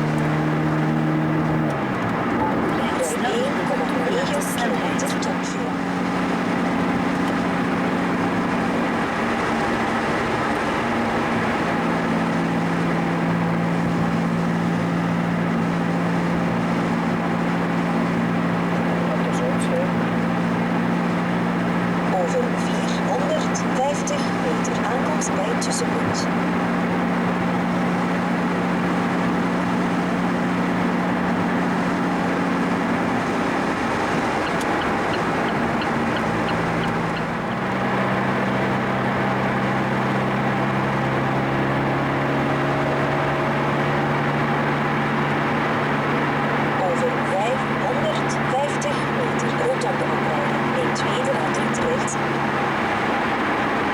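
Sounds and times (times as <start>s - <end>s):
car engine cruising: 0.0s - 53.9s
tyre and road noise: 0.0s - 53.9s.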